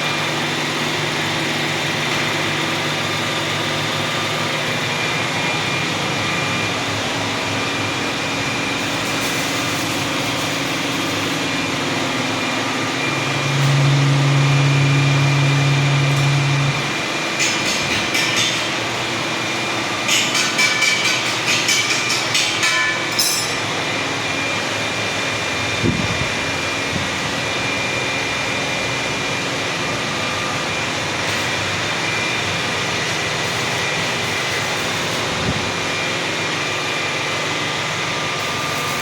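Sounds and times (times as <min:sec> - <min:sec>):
boring machine humming: 0:00.0 - 0:39.0.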